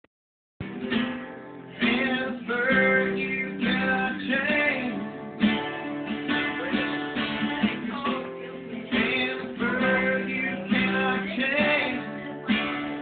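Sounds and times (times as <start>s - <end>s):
guitar chords strummed: 0.6s - 13.0s
guitar notes bending: 0.6s - 13.0s.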